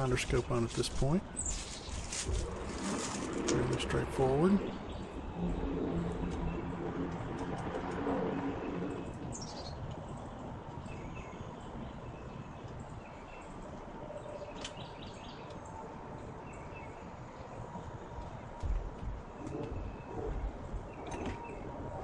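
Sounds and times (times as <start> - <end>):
steady background hush: 0.0 - 22.0.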